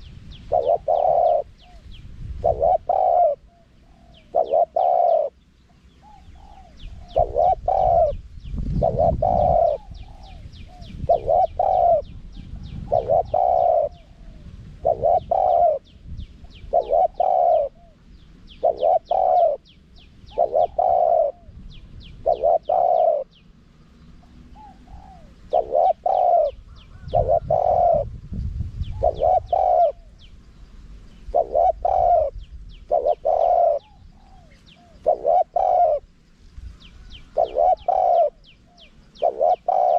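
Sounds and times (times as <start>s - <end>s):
dove cooing: 0.0s - 23.4s, 24.0s - 28.2s, 28.8s - 30.4s, 31.1s - 36.2s, 37.0s - 39.9s
small birds chirping: 0.0s - 39.9s.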